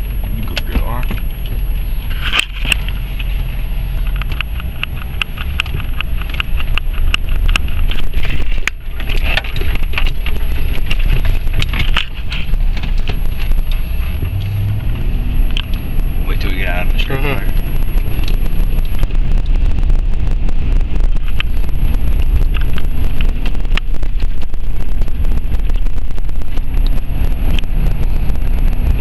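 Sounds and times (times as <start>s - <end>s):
low engine drone: 0.0s - 29.0s
road noise: 0.0s - 29.0s
sharp clicks and rattles: 0.0s - 29.0s.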